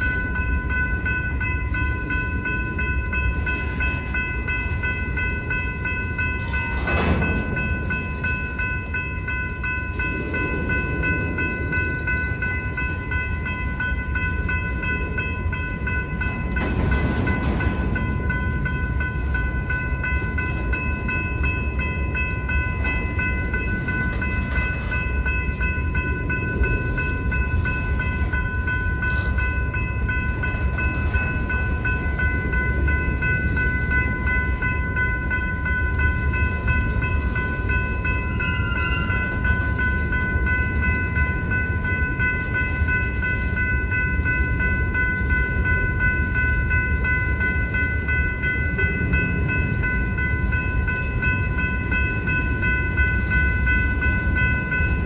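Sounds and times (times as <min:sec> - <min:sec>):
crossing signal bell ringing: 0:00.0 - 0:55.0
train cars clanking: 0:00.0 - 0:55.0
train wheels rumbling on rails: 0:00.0 - 0:55.0.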